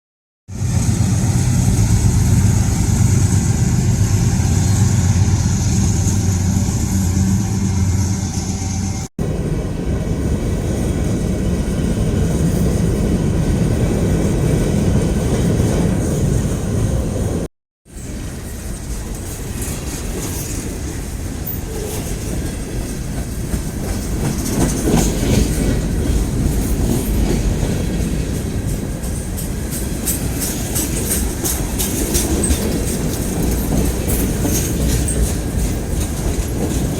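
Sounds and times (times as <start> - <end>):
freight train rumbling past: 0.5 - 36.9.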